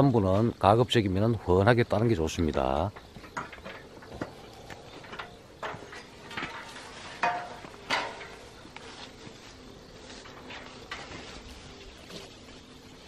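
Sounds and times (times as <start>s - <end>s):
branches and leaves rustling: 0.0s - 13.0s.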